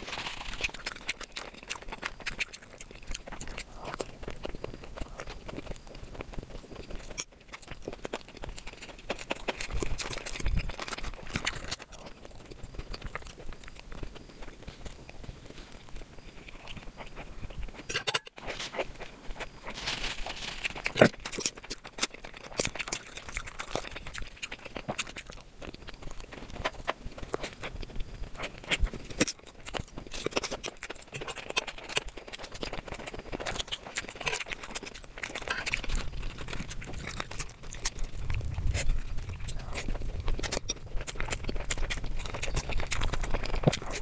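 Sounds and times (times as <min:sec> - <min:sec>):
person chewing and biting food: 0:00.0 - 0:44.0.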